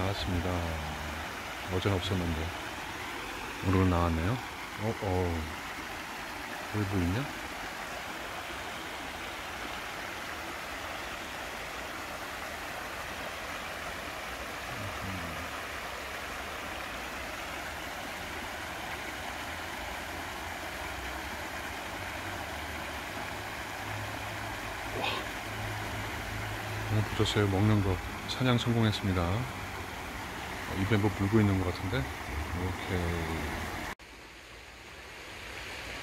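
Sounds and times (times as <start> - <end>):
stream water over rocks: 0.0 - 36.0.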